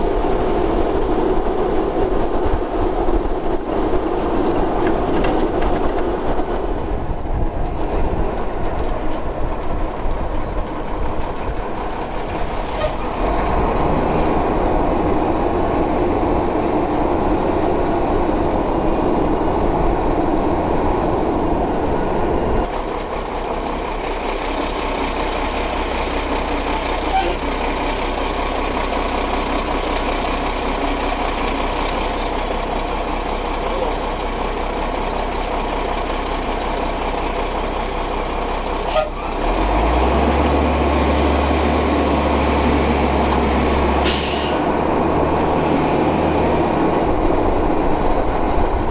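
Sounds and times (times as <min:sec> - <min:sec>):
truck engine rumbling and rattling: 0:00.0 - 0:48.9.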